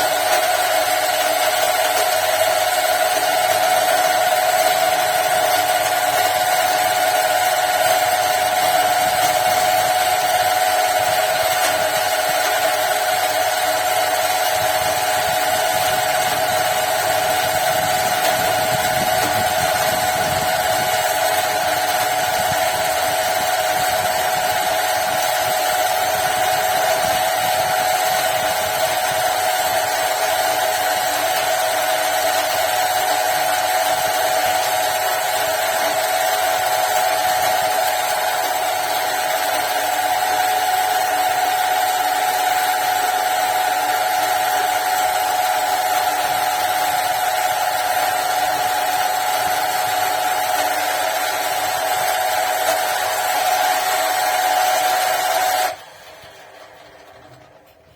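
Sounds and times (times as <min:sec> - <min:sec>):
electric water pump running: 0:00.0 - 0:57.9.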